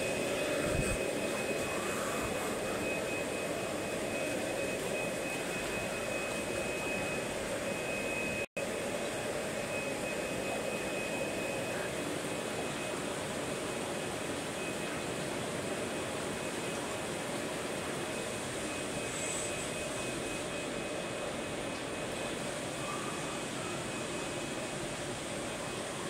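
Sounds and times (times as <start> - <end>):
aquarium equipment hum and hiss: 0.0 - 26.0
faint thin whine: 0.0 - 26.0.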